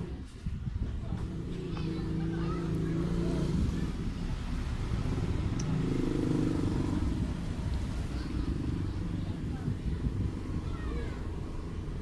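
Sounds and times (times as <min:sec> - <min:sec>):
low motor engine rumble: 0:00.0 - 0:12.0.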